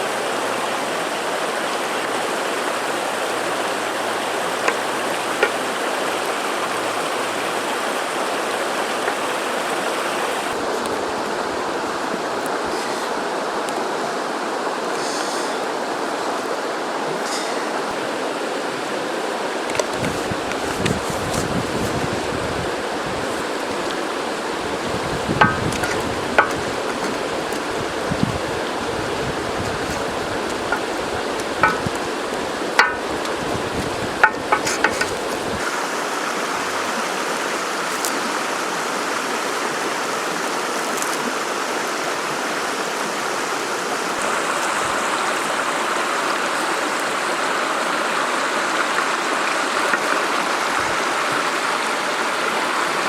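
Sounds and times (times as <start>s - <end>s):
river flowing over rocks: 0.0s - 53.0s.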